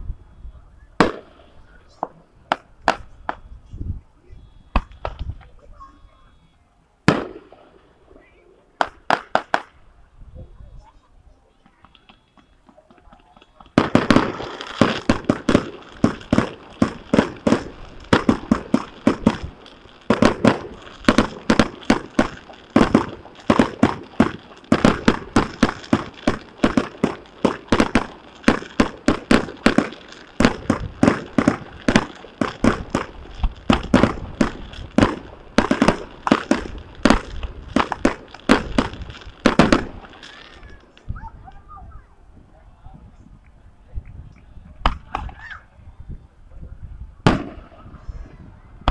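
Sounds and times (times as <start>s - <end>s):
fireworks bursting with sharp bangs: 0.0s - 6.4s, 7.0s - 48.9s.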